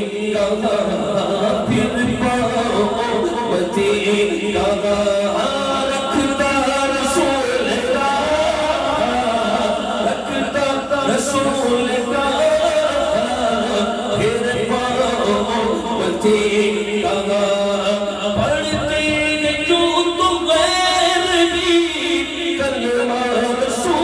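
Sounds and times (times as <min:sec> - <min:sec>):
man singing into microphone: 0:00.0 - 0:24.0.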